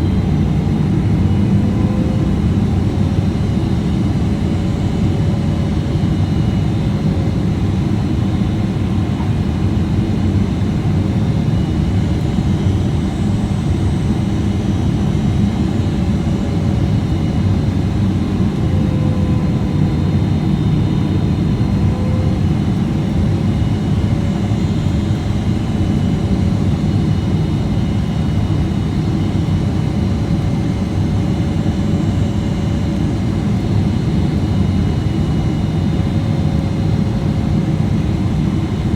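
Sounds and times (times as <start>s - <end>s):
aircraft cabin engine rumble: 0.0s - 38.9s.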